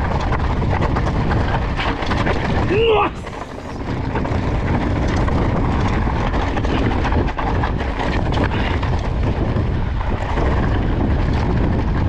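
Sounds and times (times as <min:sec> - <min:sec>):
bike rattling and clicking: 0:00.0 - 0:12.0
wind buffeting microphone: 0:00.0 - 0:12.0.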